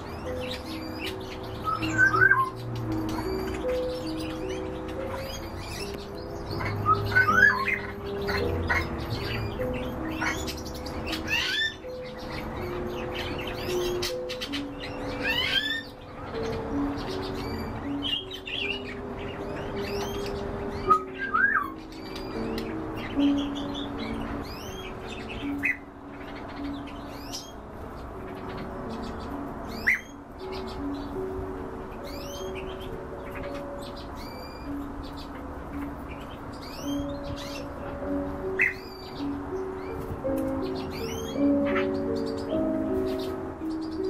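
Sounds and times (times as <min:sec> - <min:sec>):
cage birds chirping: 0:00.0 - 0:44.0.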